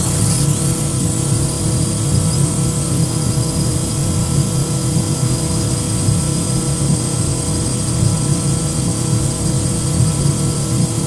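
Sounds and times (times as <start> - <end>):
drone propellers buzzing whine: 0.0 - 11.0.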